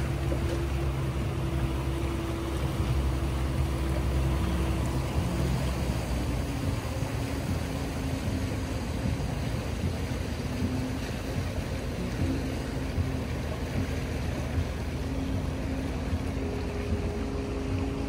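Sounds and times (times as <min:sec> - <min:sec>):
boat engine humming: 0:00.0 - 0:18.0
water along the hull: 0:00.0 - 0:18.0.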